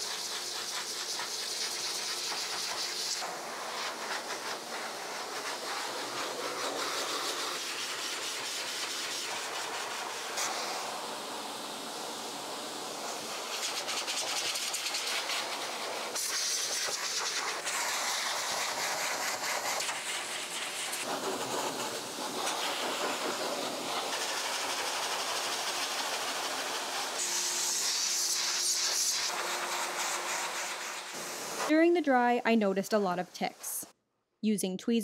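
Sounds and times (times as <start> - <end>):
pet dryer blowing air: 0.0 - 31.7.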